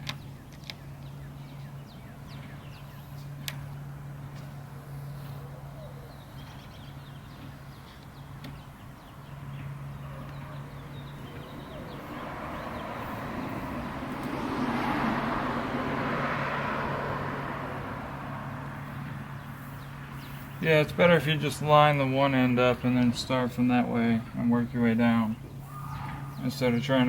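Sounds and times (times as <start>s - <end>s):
passing car road noise: 0.0s - 27.0s.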